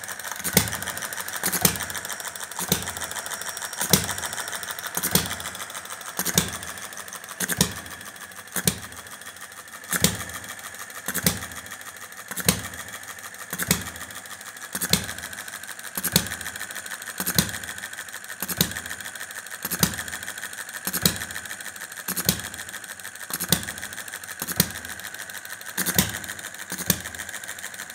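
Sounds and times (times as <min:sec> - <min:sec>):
light mechanical ticking: 0:00.0 - 0:27.9
stationary engine running: 0:00.0 - 0:27.9.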